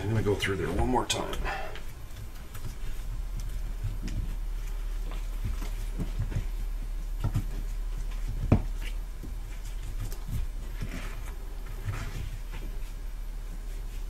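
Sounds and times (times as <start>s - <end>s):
steady low hum: 0.0s - 14.0s
wrap rustling around pipe: 0.0s - 14.0s.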